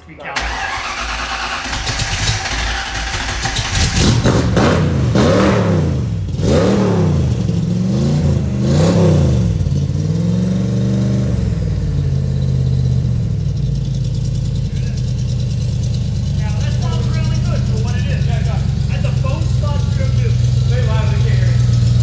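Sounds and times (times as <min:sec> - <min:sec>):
car engine idling: 0:00.0 - 0:22.0
car engine revving: 0:00.4 - 0:22.0.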